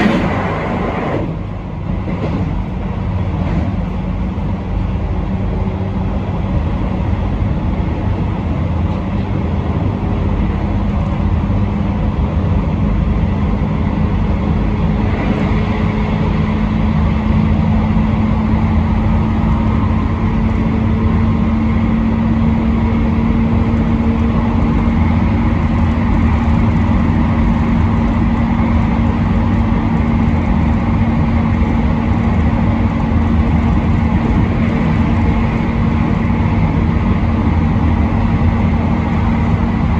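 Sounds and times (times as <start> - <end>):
train motor hum: 0.0 - 39.9
train wheels rumbling on rail: 0.0 - 39.9.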